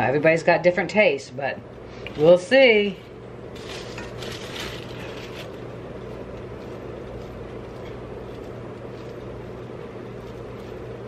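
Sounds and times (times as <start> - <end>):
steady low hum: 0.0 - 11.0
rustling of chopped cabbage: 2.1 - 11.0.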